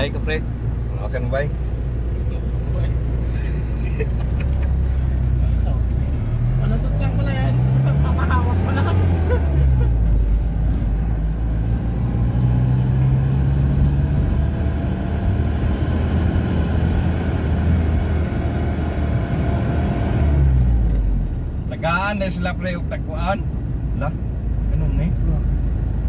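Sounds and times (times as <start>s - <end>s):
low vehicle engine drone: 0.0s - 26.0s
road noise: 0.0s - 26.0s.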